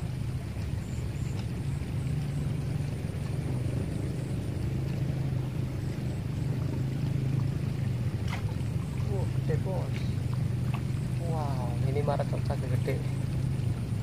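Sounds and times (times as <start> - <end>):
low motor drone: 0.0 - 14.0.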